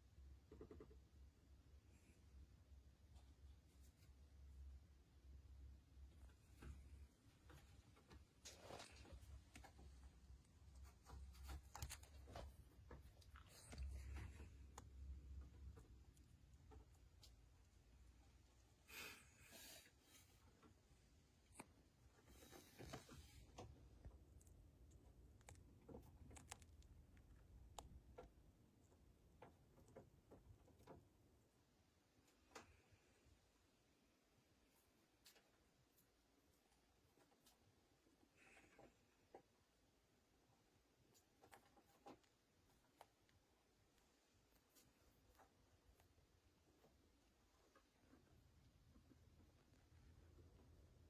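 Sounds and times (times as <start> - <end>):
faint small clicks and ticks: 0.1 - 4.8, 5.4 - 18.6, 20.6 - 33.4, 34.6 - 51.0.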